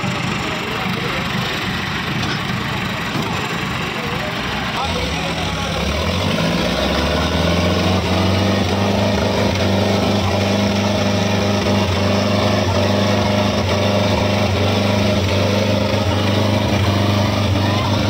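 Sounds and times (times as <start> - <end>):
tractor diesel engines under load: 0.0 - 18.0.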